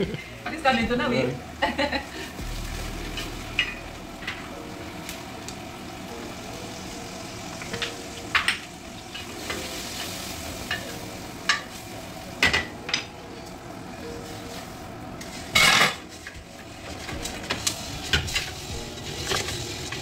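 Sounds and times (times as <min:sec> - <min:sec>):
frying sizzle: 0:00.0 - 0:20.0.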